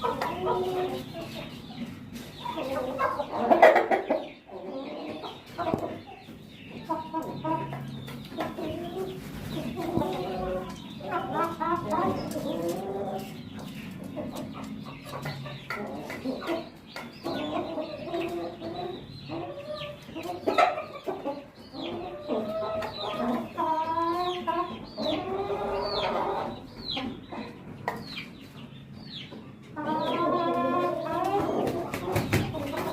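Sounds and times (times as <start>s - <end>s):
chickens clucking: 0.0s - 32.9s.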